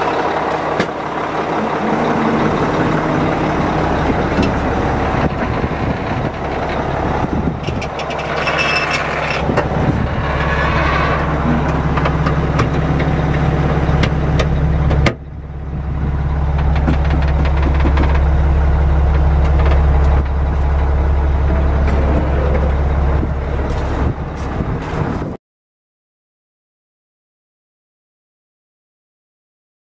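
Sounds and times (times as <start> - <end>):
diesel engine idling: 0.0 - 25.4.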